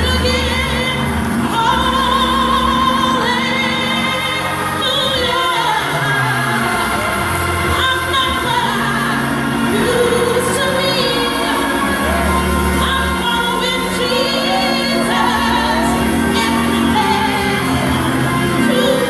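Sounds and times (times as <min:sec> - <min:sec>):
instrumental accompaniment: 0:00.0 - 0:19.0
woman singing gospel: 0:00.0 - 0:19.0.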